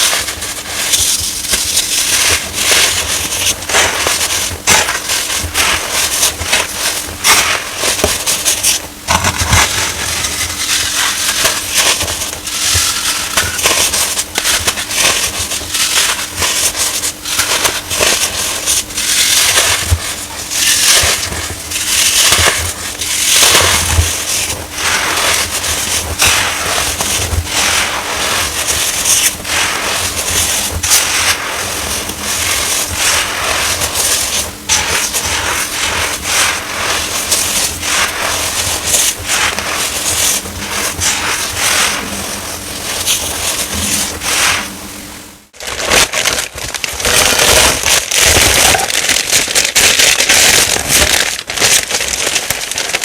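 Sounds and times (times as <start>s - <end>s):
baking soda crunching: 0.0s - 53.0s.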